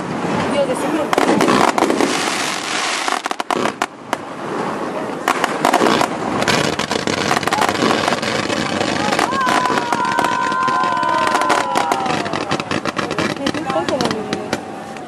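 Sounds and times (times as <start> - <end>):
firework fountains crackling: 0.0 - 15.0.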